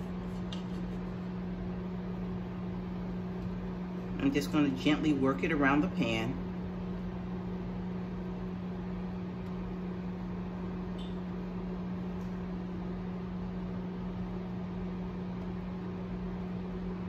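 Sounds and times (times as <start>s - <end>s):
oven fan humming: 0.0s - 17.0s.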